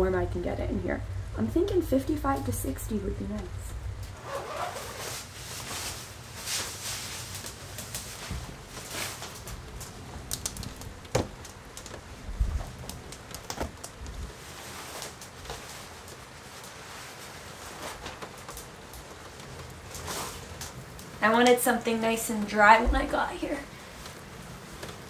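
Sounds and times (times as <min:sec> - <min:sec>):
clothing rustling: 0:03.9 - 0:25.0.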